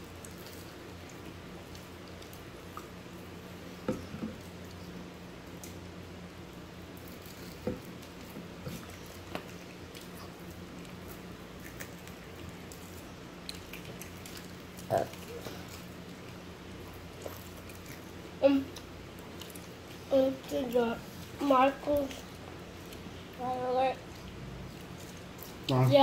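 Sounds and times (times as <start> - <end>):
children chewing: 0.0 - 26.0
steady low hum: 0.0 - 26.0.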